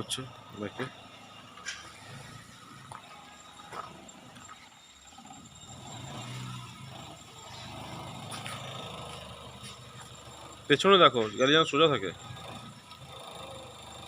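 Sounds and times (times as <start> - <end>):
car engine low hum: 0.0 - 14.0.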